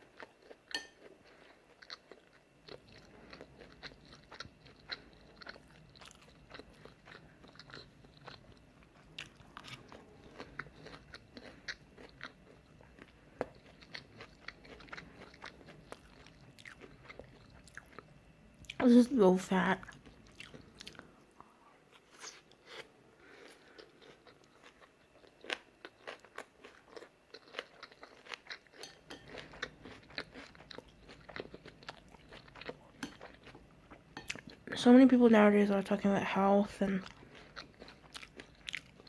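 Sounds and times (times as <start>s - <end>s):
person chewing noodles: 0.0s - 18.8s, 19.8s - 34.7s, 37.0s - 39.0s.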